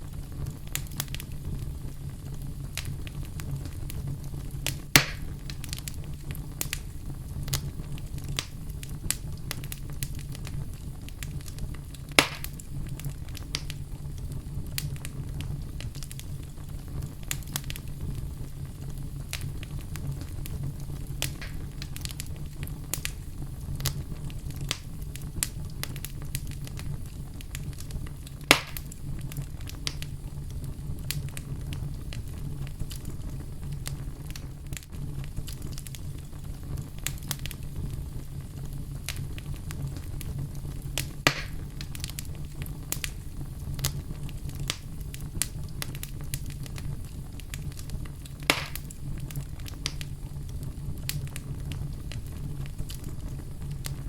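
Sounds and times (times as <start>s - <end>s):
fire crackling in a fireplace: 0.0s - 54.0s
loud fire pops: 0.0s - 54.0s.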